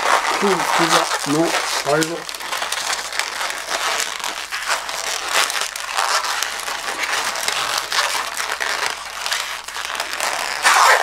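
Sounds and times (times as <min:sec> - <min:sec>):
balloon squeaking and rubbing: 0:00.0 - 0:11.0.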